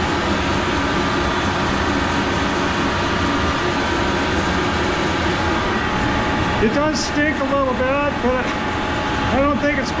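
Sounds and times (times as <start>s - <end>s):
milling machine whine: 0.0s - 10.0s.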